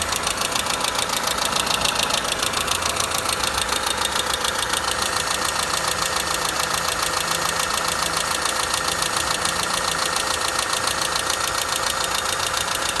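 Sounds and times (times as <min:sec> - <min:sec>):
car engine idling: 0:00.0 - 0:13.0
rhythmic engine knock: 0:00.0 - 0:13.0.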